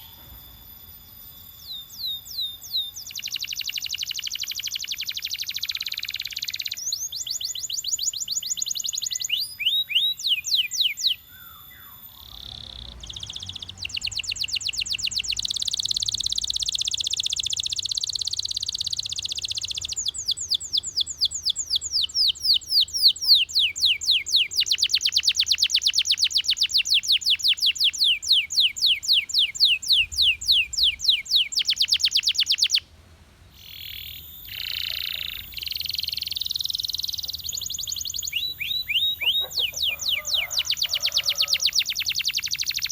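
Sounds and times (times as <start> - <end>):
canary singing trills: 0.0 - 32.9, 33.5 - 42.9.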